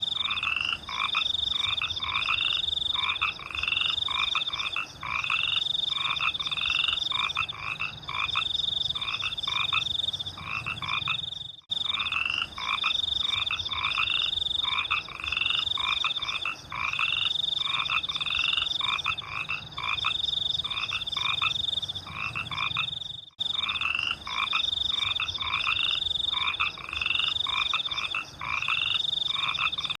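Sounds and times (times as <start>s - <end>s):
frogs calling: 0.0s - 30.0s.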